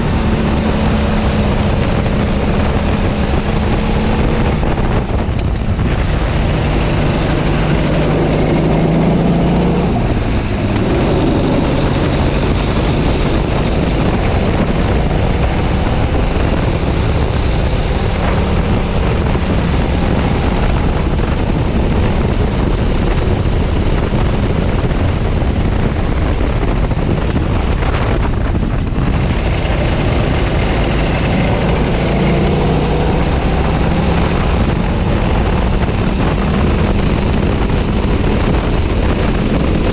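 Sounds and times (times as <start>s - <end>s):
kart engine revving: 0.0s - 39.9s
wind noise on microphone: 0.0s - 39.9s.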